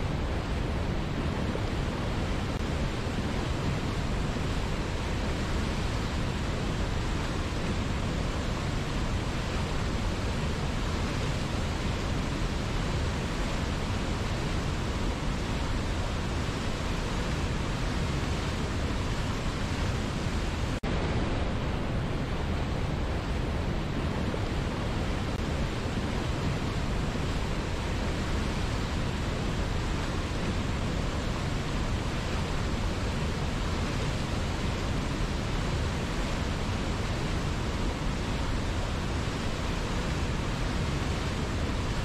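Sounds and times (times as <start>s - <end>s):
whitewater rapids roaring: 0.0s - 42.0s.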